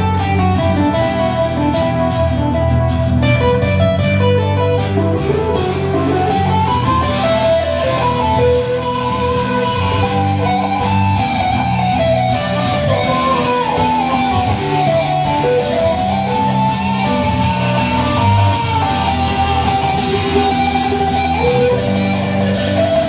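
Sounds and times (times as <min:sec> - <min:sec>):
bass notes: 0:00.0 - 0:23.0
sliding lead guitar melody: 0:00.0 - 0:23.0
strummed guitar rhythm: 0:00.0 - 0:23.0.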